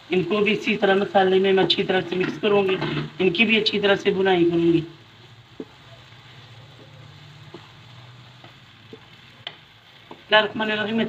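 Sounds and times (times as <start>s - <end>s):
vegetables sizzling in wok: 0.0s - 11.0s.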